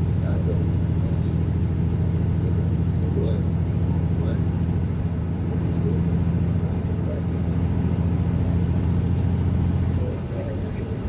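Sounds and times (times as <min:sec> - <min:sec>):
diesel truck engine running: 0:00.0 - 0:11.0
road noise: 0:00.0 - 0:11.0.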